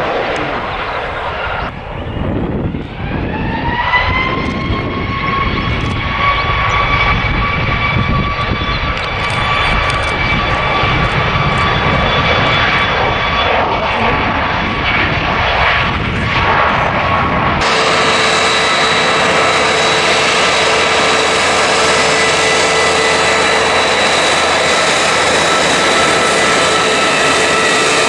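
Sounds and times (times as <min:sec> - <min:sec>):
jet engines spooling up: 0:00.0 - 0:28.0.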